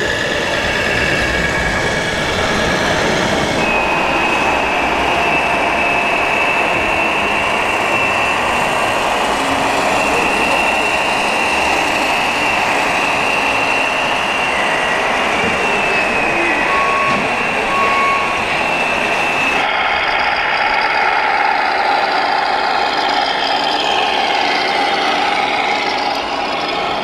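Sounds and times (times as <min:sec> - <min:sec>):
dense background noise: 0:00.0 - 0:27.0.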